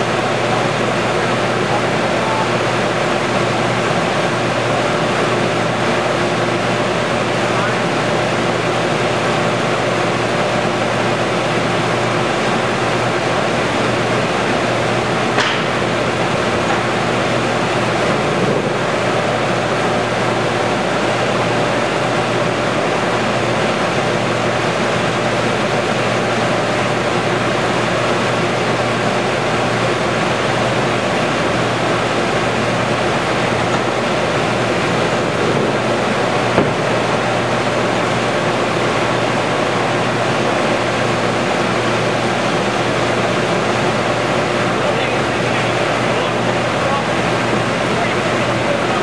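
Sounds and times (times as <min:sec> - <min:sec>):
machine humming loudly: 0:00.0 - 0:49.0.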